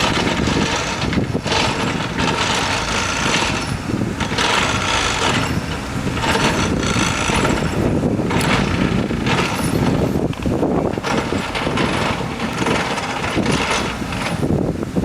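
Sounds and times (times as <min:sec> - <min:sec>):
excavator engine rumble: 0:00.0 - 0:15.0.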